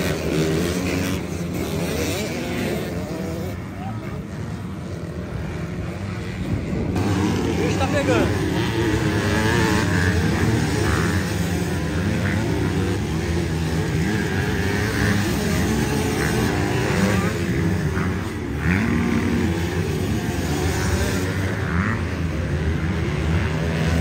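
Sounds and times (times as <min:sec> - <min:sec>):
engine revving: 0:00.0 - 0:24.0
motor engines running: 0:00.0 - 0:24.0.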